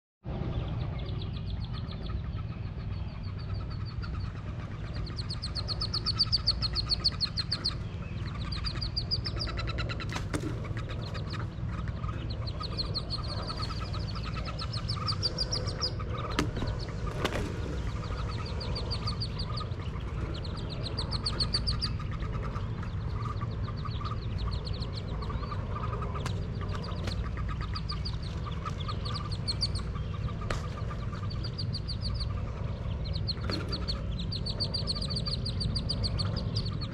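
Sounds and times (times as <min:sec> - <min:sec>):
ducklings peeping: 0:00.3 - 0:36.9
low rumble: 0:00.3 - 0:36.9.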